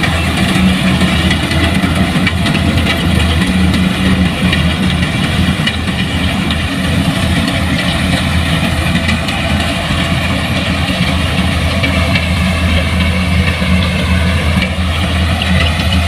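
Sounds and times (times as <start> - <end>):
heavy farm machinery engine humming: 0.0 - 16.0.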